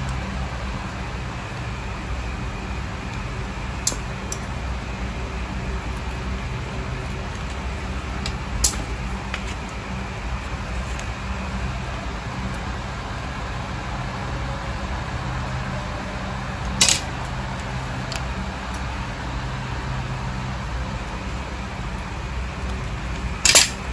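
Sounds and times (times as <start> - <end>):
low background hum: 0.0 - 23.9.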